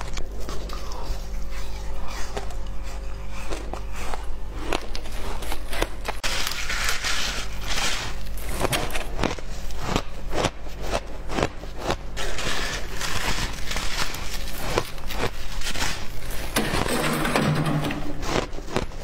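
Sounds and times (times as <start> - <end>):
ice being chewed: 0.0 - 16.9, 18.2 - 19.0
hands squeezing ice: 3.4 - 19.0.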